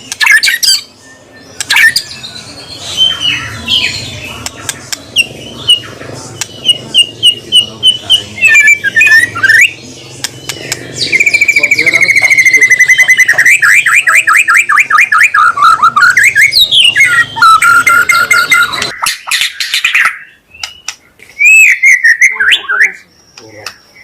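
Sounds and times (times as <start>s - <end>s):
songbird singing fast trills: 0.2s - 24.0s.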